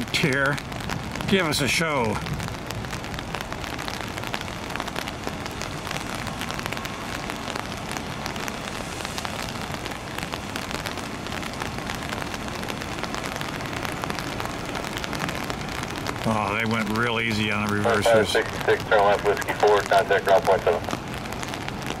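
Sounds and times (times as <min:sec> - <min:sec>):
heavy rain falling: 0:00.0 - 0:22.0
sharp raindrop hits: 0:00.0 - 0:22.0.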